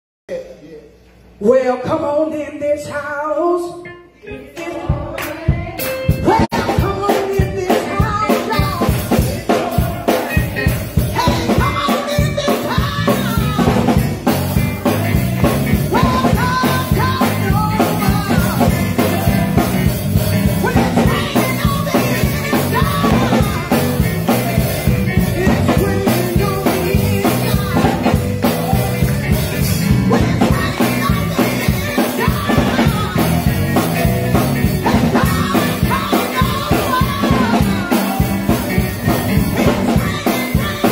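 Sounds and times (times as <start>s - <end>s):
woman singing gospel song: 1.4s - 40.9s
live band with drums and bass: 4.6s - 40.9s.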